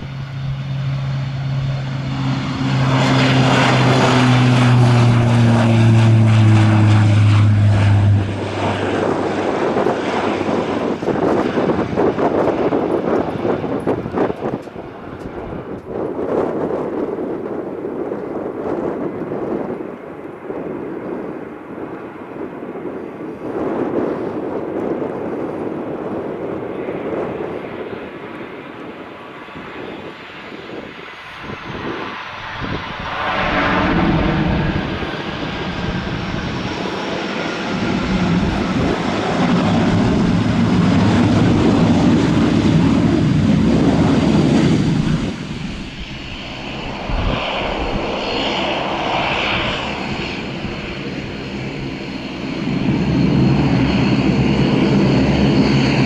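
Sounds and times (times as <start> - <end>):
high turbine whine: 0.0 - 19.8, 22.8 - 56.0
turboprop engines droning: 0.0 - 56.0.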